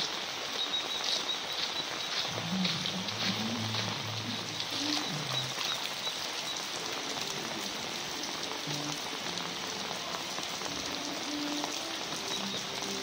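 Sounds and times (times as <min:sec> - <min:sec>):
rain on flooded street: 0:00.0 - 0:13.0.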